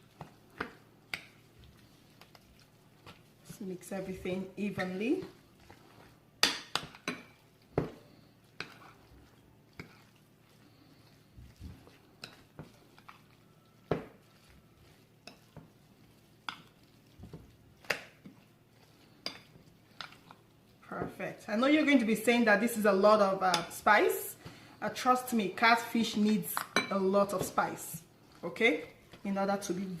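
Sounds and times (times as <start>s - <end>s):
spoon stirring paste in a bowl: 0.0s - 29.8s.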